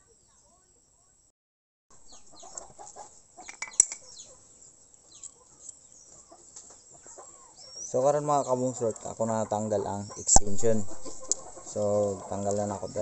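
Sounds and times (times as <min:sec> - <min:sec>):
small birds chirping: 0:00.0 - 0:01.3, 0:01.9 - 0:13.0
chickens clucking: 0:02.0 - 0:13.0.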